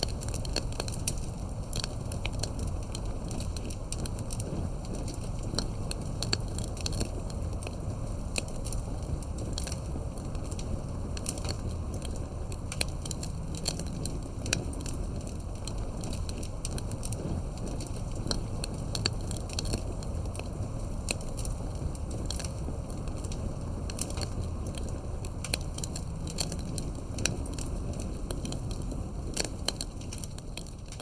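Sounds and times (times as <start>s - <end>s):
burning wood crackling and popping: 0.0s - 31.0s
campfire flames rumbling: 0.0s - 31.0s.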